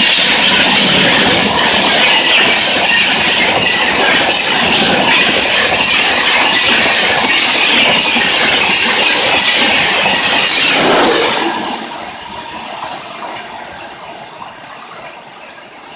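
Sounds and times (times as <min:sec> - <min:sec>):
train coaches passing: 0:00.0 - 0:15.9.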